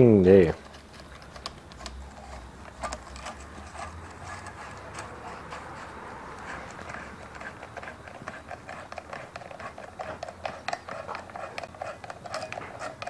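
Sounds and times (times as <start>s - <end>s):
steel rod clicking against metal: 0.6s - 13.0s.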